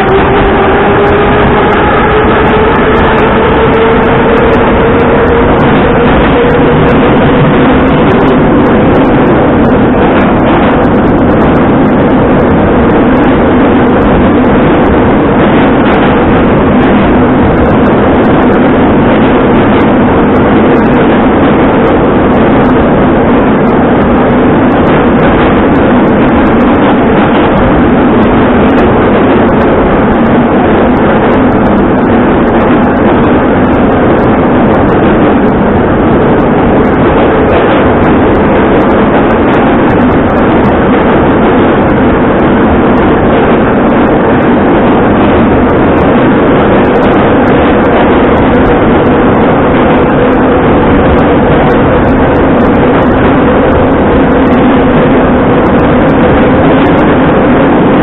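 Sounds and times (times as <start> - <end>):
train wheels rumbling in tunnel: 0.0 - 56.9
steady drone: 0.0 - 58.0.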